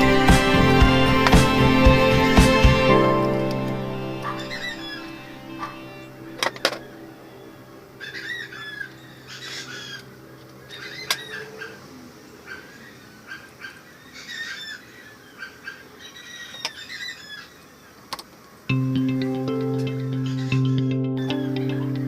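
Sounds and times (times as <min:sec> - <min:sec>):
bird chirping: 0:02.8 - 0:18.1, 0:19.6 - 0:22.0.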